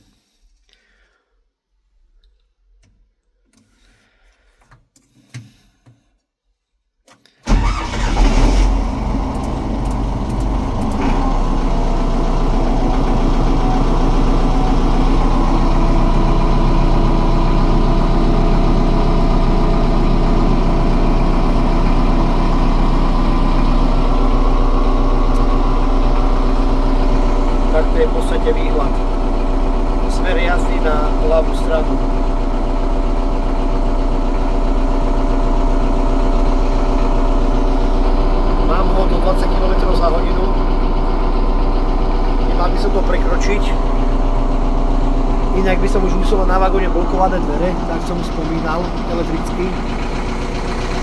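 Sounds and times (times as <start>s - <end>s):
diesel engine starting and idling: 7.4s - 51.0s.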